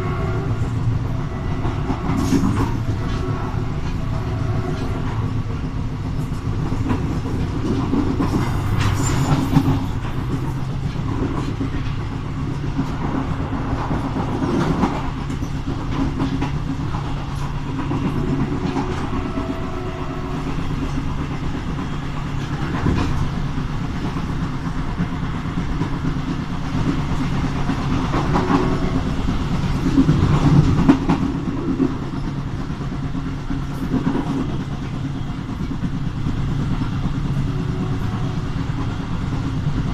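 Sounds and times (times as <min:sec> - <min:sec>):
diesel locomotive engine drone: 0:00.0 - 0:39.9
train wheels clacking on rail joints: 0:00.0 - 0:39.9.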